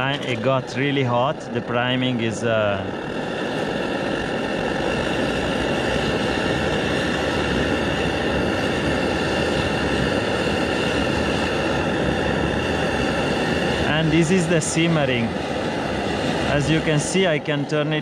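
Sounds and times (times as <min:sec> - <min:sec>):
camping stove burner rushing: 0:00.0 - 0:18.0.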